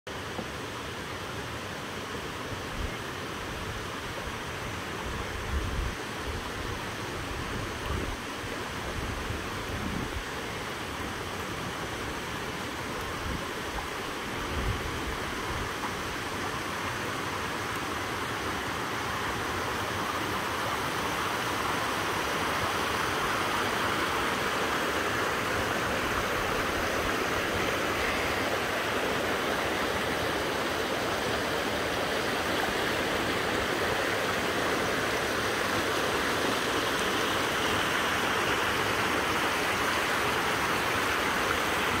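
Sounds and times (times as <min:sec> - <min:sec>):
river water rushing over rocks: 0:00.1 - 0:42.0.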